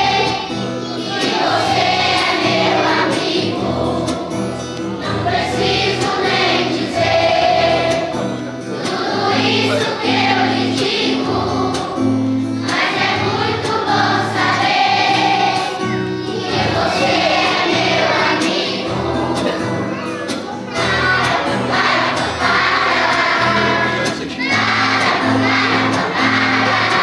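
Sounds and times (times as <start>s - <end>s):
backing track over loudspeakers: 0.0s - 27.0s
children singing together: 0.0s - 27.0s.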